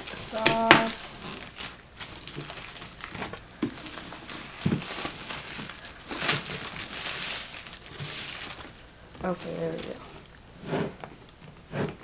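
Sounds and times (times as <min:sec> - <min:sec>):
plastic wrapping crinkling: 0:00.0 - 0:10.2.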